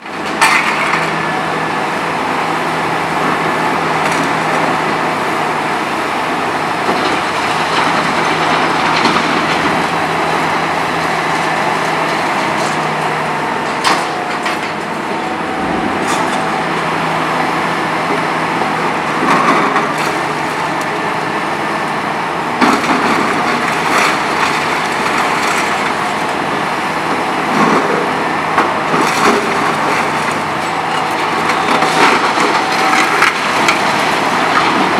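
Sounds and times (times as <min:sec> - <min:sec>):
excavator diesel engine: 0:00.0 - 0:34.9.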